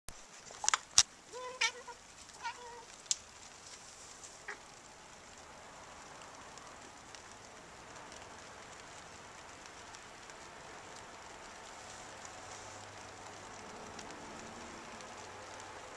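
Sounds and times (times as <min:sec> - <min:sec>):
faint steady hiss: 0:00.1 - 0:15.9.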